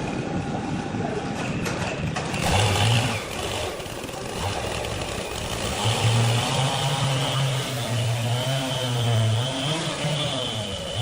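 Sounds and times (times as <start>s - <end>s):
sawmill machinery din: 1.2s - 11.0s.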